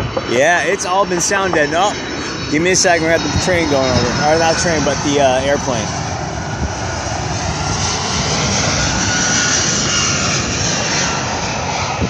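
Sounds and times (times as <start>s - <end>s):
airplane engine passing overhead: 0.0s - 12.0s.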